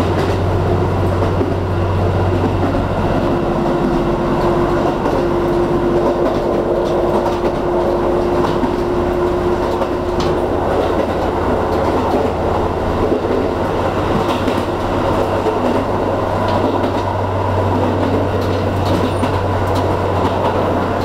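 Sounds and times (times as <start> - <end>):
railcar engine drone: 0.0 - 21.0
wheels clacking over rail joints: 0.0 - 21.0.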